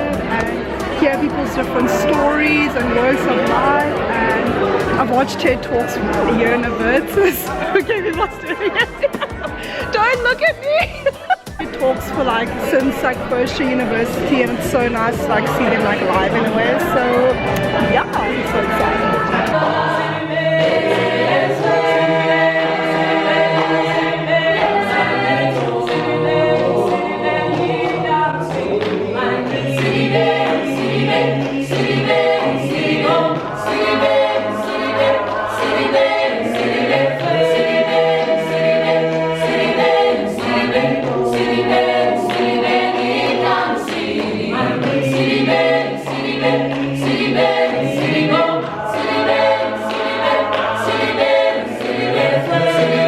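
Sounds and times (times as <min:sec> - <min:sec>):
steady beat: 0:00.0 - 0:21.9, 0:23.5 - 0:53.0
choir singing in harmony: 0:00.0 - 0:53.0.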